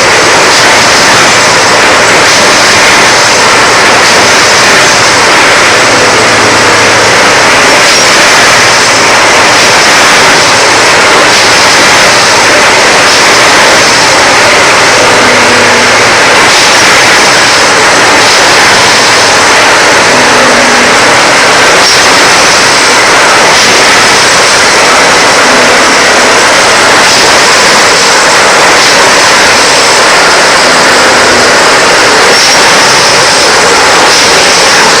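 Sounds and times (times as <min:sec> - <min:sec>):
train running rushing noise: 0:00.0 - 0:35.0.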